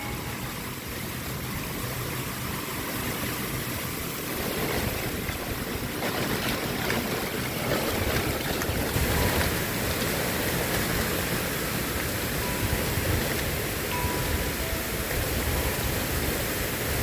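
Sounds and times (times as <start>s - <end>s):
rain: 0.0s - 17.0s
wind: 0.0s - 17.0s.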